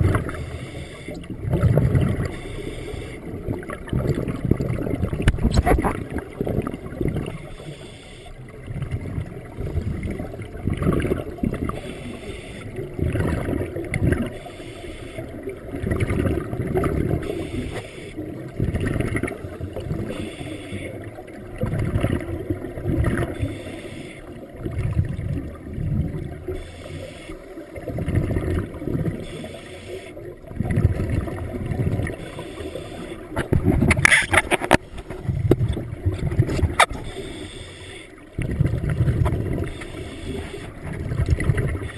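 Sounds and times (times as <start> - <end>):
regulator bubbles gurgling underwater: 0.0 - 41.9.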